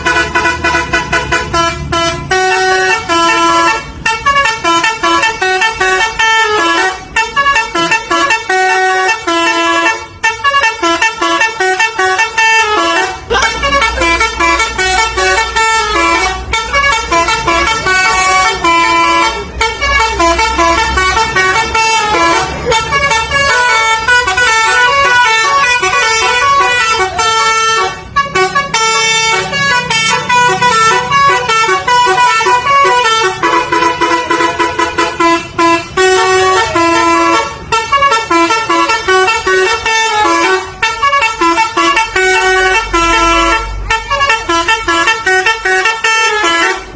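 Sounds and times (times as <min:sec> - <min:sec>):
multi-tone bus air horn melody: 0:00.0 - 0:46.9.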